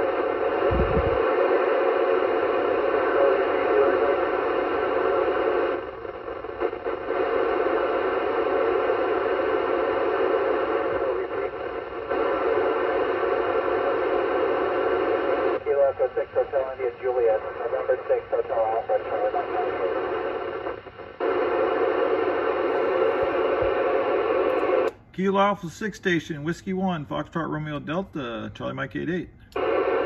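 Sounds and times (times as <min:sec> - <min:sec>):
radio receiver hiss: 0:00.0 - 0:25.0, 0:29.4 - 0:30.0.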